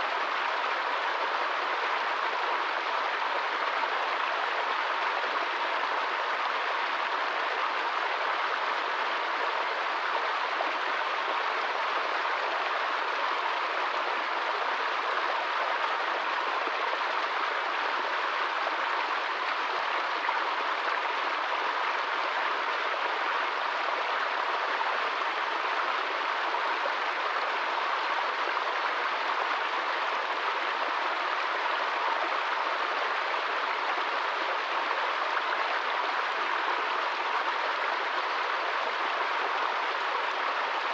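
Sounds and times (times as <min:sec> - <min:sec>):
stream splashing over rocks: 0:00.0 - 0:40.9.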